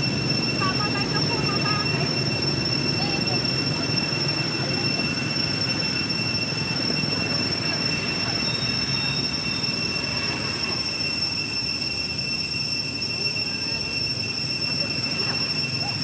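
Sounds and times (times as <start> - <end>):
steady high-pitched whine: 0.0 - 16.0.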